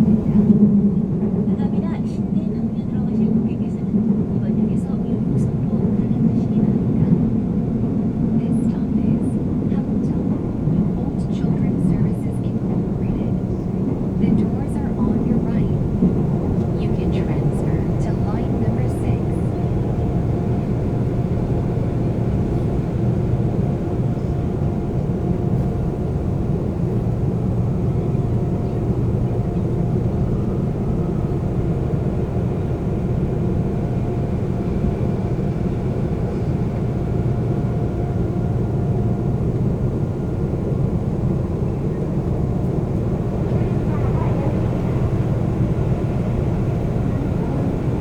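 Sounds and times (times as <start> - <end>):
faint whine: 0.0 - 48.0
subway train rumbling: 0.0 - 48.0.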